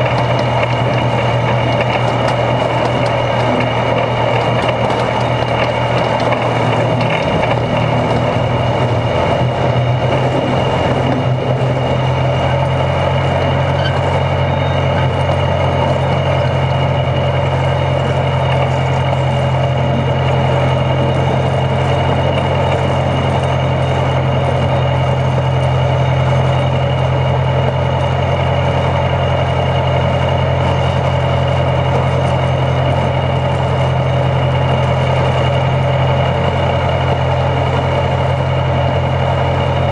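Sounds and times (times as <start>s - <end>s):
low engine hum: 0.0s - 39.9s
mechanical rumble of running gear: 0.0s - 39.9s.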